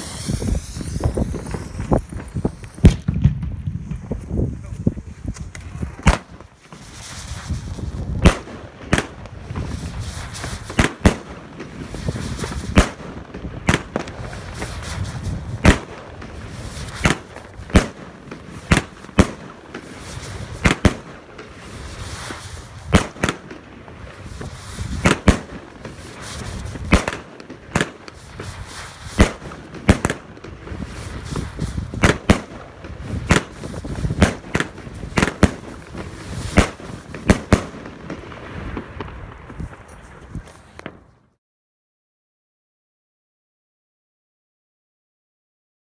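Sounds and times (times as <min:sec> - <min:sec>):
firework bangs: 0:00.0 - 0:41.1.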